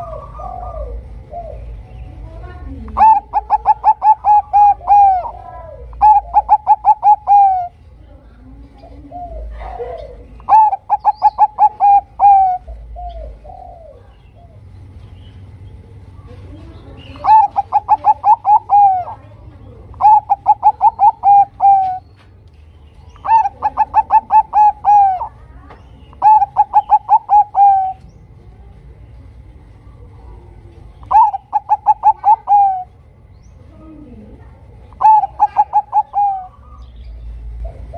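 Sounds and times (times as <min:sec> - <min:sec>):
dove cooing: 0:00.0 - 0:01.9, 0:02.5 - 0:07.9, 0:08.6 - 0:14.8, 0:16.4 - 0:22.2, 0:23.1 - 0:28.5, 0:29.9 - 0:33.1, 0:33.7 - 0:37.9.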